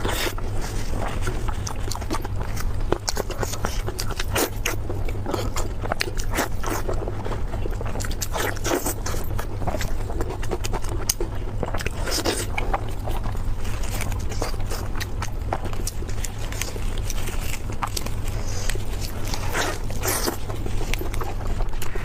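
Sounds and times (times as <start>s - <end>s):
biting and chewing meat: 0.0s - 22.0s
steady low hum: 0.0s - 22.0s
wet clicks and crunches: 0.0s - 22.0s.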